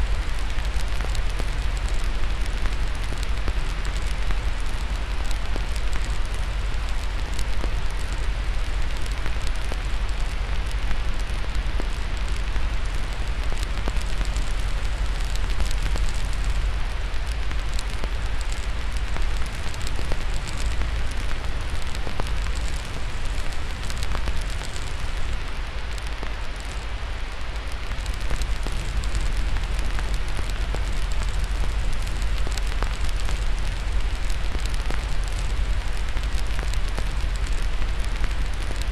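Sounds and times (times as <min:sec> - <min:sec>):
deep steady rumble: 0:00.0 - 0:38.9
fire crackling: 0:00.0 - 0:38.9
white noise hiss: 0:00.0 - 0:38.9.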